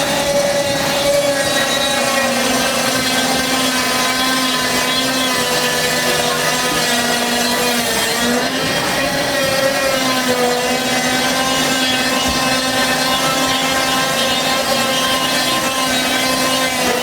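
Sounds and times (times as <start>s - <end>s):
sawmill machinery droning hum: 0.0s - 17.0s.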